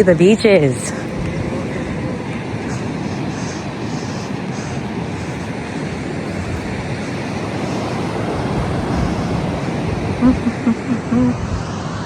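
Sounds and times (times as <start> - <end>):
wind buffeting microphone: 0.0 - 12.0
ocean surf washing in: 0.9 - 12.0.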